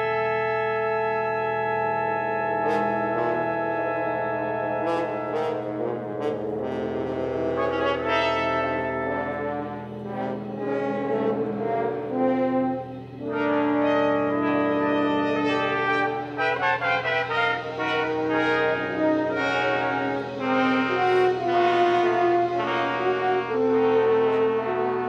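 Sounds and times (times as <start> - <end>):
brass music held chords: 0.0 - 25.0.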